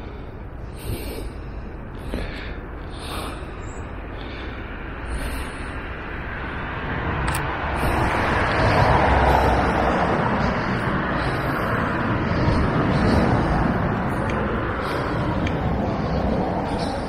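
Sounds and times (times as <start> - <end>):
low rumble: 0.0 - 17.0
outdoor rushing noise: 0.0 - 17.0.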